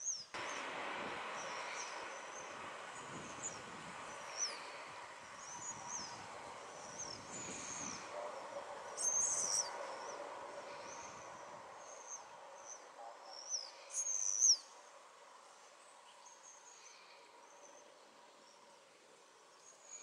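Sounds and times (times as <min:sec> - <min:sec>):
faint steady background noise: 0:00.0 - 0:20.0
small birds chirping: 0:00.0 - 0:20.0.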